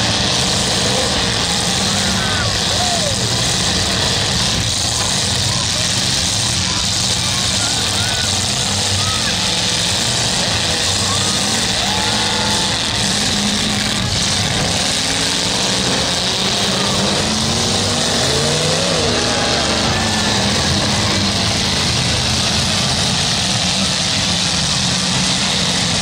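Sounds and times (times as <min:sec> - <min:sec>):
car engines revving: 0:00.0 - 0:26.0
crowd noise: 0:00.0 - 0:26.0.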